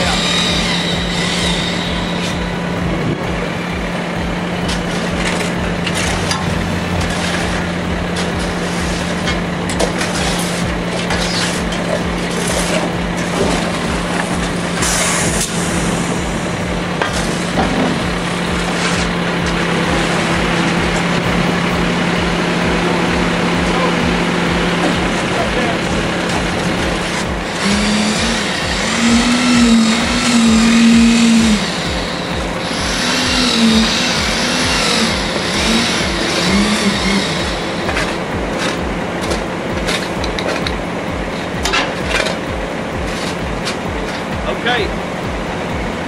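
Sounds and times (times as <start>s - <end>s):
truck engine running: 0.0s - 46.0s.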